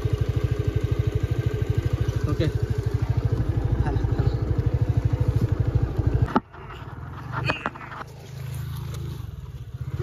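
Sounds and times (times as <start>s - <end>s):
scooter engine putter: 0.0s - 10.0s.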